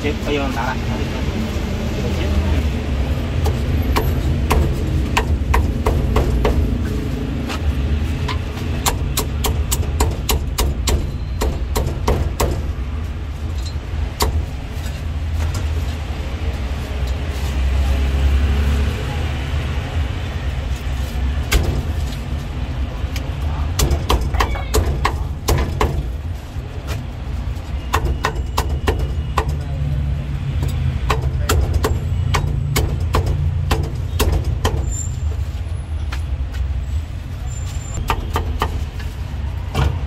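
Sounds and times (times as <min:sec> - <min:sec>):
low traffic rumble: 0:00.0 - 0:40.0.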